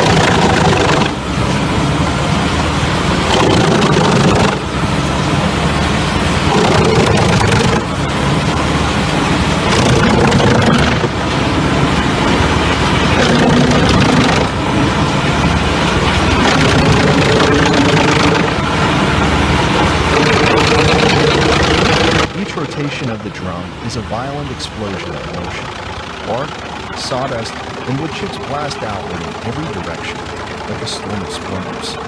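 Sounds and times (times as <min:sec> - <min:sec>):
wood chipper running: 0:00.0 - 0:32.0.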